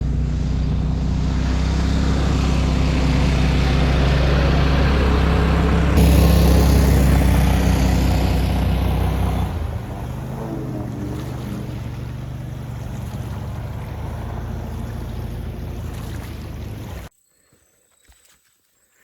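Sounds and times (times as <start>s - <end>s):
boat mud motor running: 0.0s - 17.1s.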